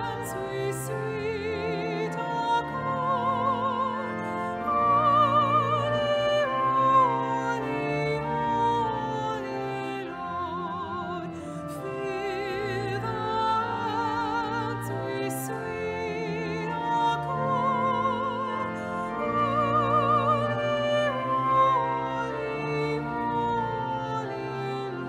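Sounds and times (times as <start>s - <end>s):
slow melody with vibrato: 0.0s - 25.0s.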